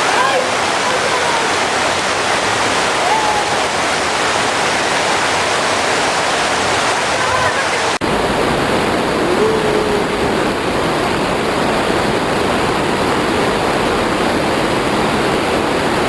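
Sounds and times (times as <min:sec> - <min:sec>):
heavy rain: 0:00.0 - 0:16.0
rushing water: 0:00.0 - 0:16.0.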